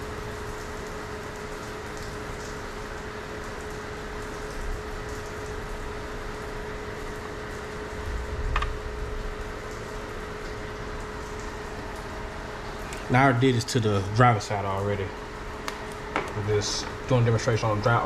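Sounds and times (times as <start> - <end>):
constant low hum: 0.0 - 18.0.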